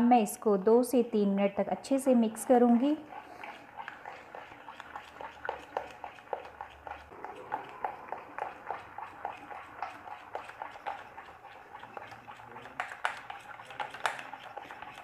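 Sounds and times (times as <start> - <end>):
batter beaten by hand in bowl: 2.3 - 15.0.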